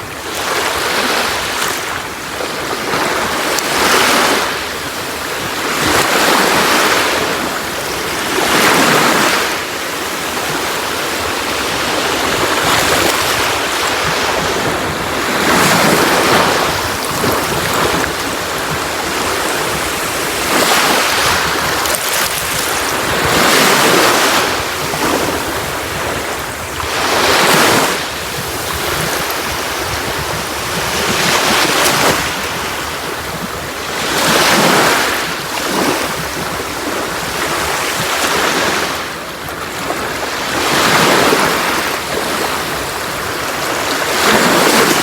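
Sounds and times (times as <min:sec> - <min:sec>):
sea waves breaking on beach: 0:00.0 - 0:45.0.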